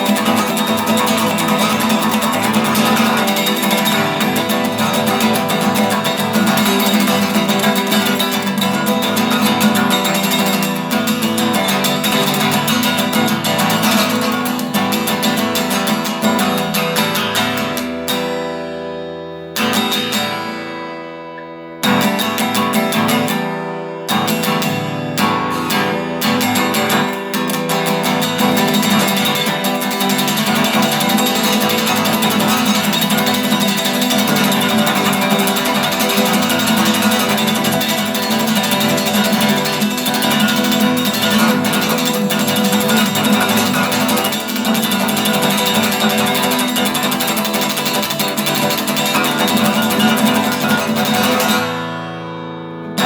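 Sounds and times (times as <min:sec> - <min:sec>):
strummed string instrument music: 0:00.0 - 0:53.0.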